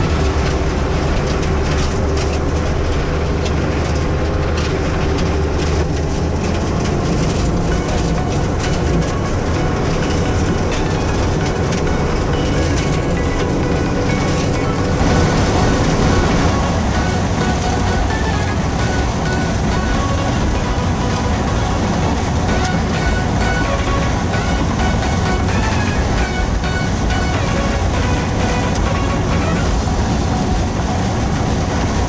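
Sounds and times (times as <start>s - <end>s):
mulcher shredding stalks: 0.0s - 32.0s
tractor diesel engine under load: 0.0s - 32.0s.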